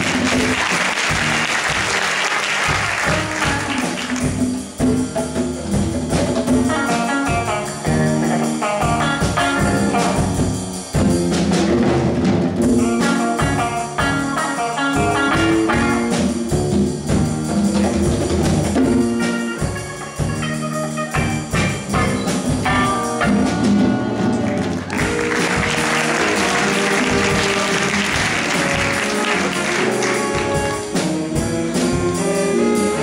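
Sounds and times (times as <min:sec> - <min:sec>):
jazz band playing: 0:00.0 - 0:33.0.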